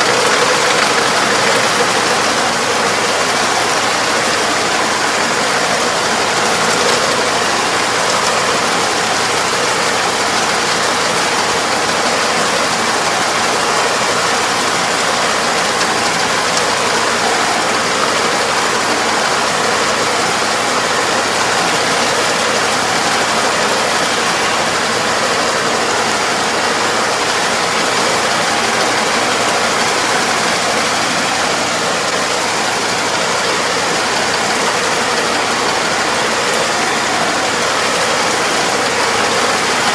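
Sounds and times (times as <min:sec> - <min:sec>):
farm machine engine running: 0:00.0 - 0:39.9.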